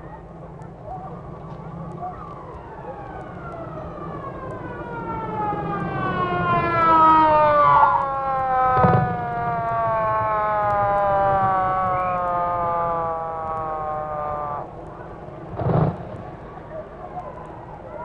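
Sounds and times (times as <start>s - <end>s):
low vehicle rumble: 0.0s - 18.0s
police siren wailing: 0.1s - 18.0s.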